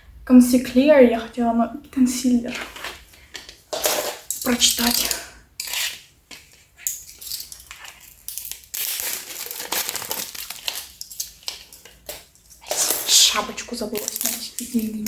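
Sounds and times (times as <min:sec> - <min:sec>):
plastic packaging crinkling: 0:02.5 - 0:15.0.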